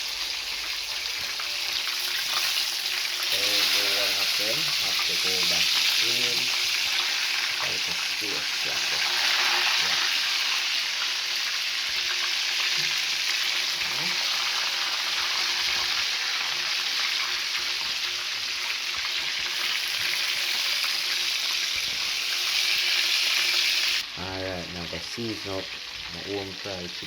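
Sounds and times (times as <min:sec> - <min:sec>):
chicken sizzling in a pot: 0:00.0 - 0:27.0.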